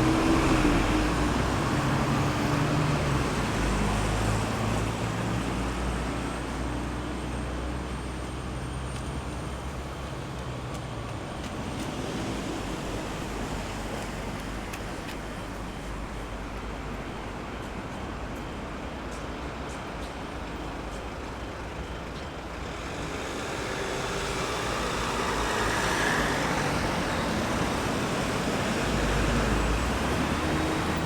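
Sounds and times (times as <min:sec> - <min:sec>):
passing vehicle engine hum: 0:00.0 - 0:19.7, 0:20.4 - 0:31.0
traffic noise: 0:00.0 - 0:31.0.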